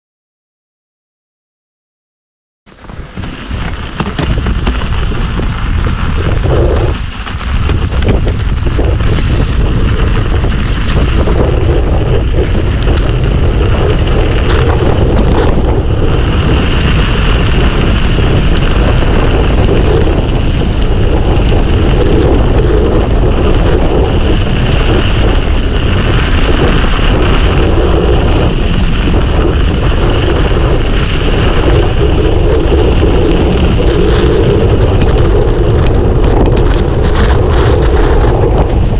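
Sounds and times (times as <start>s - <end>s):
bike tyres rumbling and rattling: 2.7s - 38.9s
wind buffeting microphone: 2.7s - 38.9s.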